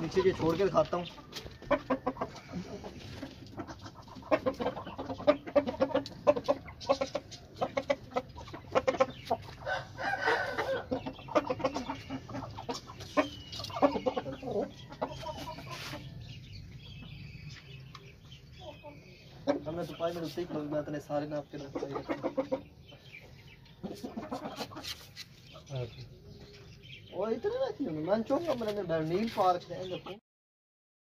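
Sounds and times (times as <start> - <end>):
chickens clucking: 0.0 - 30.2.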